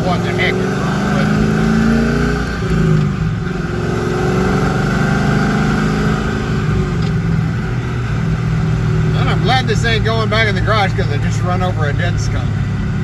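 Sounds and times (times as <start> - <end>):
car engine running: 0.0 - 13.0
low road rumble: 0.0 - 13.0.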